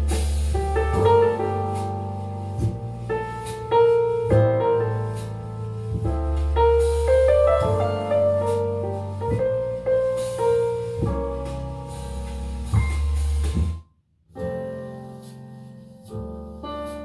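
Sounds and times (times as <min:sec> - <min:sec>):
deep sustained bass notes: 0:00.0 - 0:13.8
piano chords: 0:00.0 - 0:13.8.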